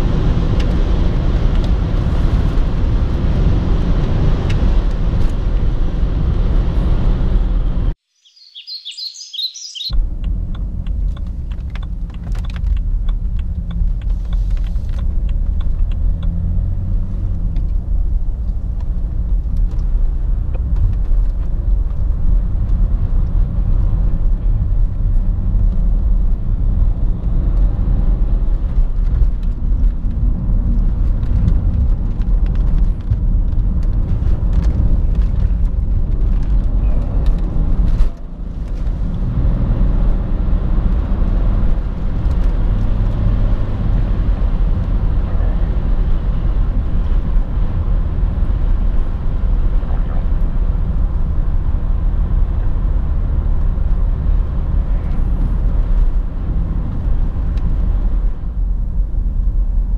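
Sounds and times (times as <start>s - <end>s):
tyre and road noise: 0.0s - 59.9s.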